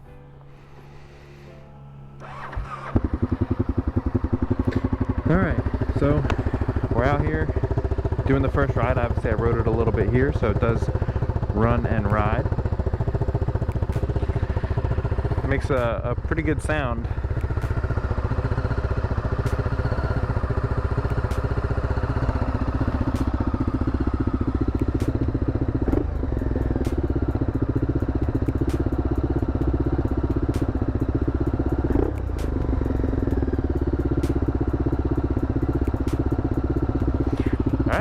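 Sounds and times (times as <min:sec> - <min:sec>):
motorcycle engine idling: 0:00.0 - 0:38.0.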